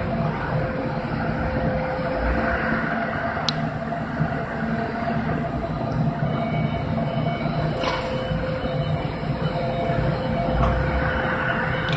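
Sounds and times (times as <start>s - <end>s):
film blowing machine humming: 0.0s - 11.9s.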